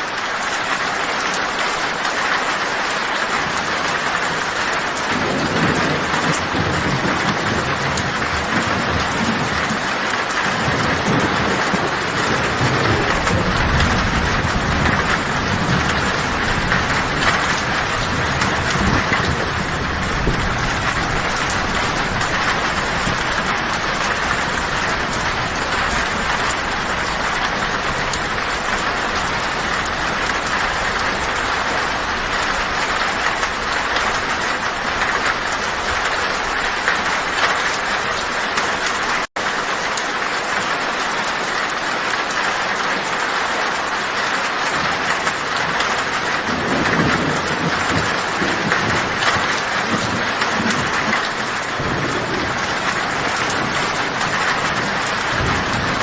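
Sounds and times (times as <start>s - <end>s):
heavy rain on a tin roof: 0.0s - 56.0s
low thunder rumble: 4.4s - 38.9s, 45.6s - 56.0s.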